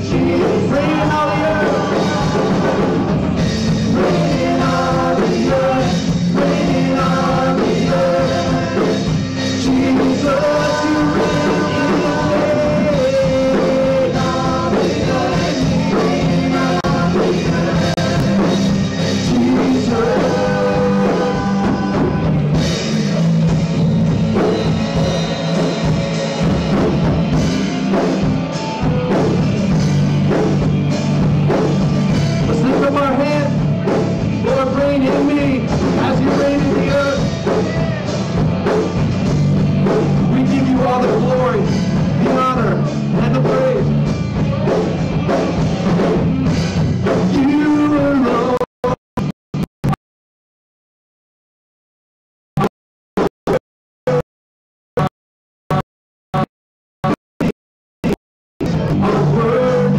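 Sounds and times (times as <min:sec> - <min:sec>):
live rock band playing: 0:00.0 - 0:49.0, 0:58.6 - 0:59.9.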